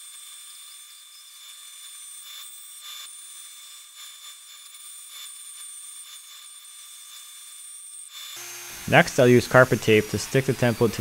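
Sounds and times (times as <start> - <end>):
bandsaw cutting wood: 0.0 - 11.0.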